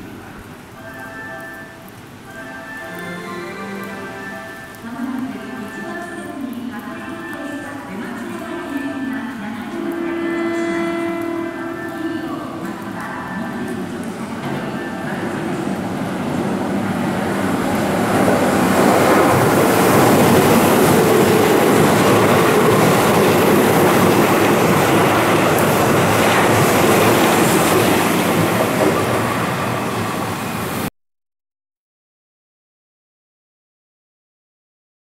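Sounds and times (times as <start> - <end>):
train wheels rushing on rail: 0.0 - 30.9.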